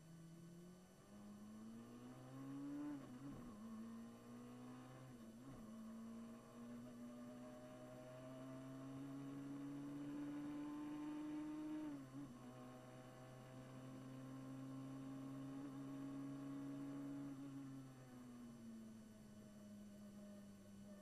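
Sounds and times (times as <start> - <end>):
racing engine accelerating: 1.0 - 17.9.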